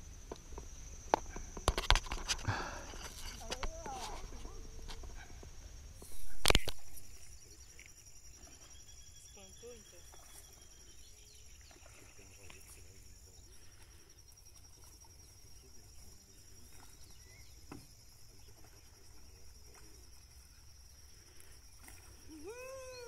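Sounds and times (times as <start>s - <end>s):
faint chirps: 0.0s - 23.0s
insects trilling: 0.0s - 23.0s.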